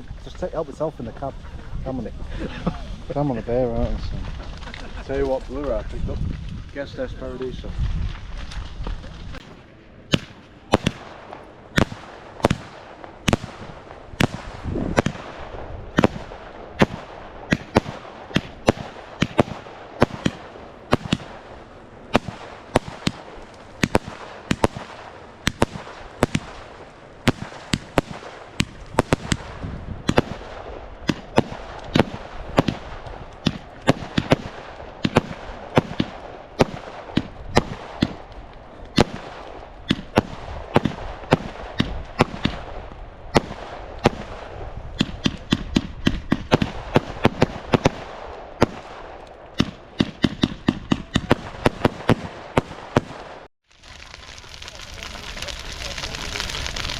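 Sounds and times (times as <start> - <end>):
fireworks bangs and pops: 0.0 - 56.9.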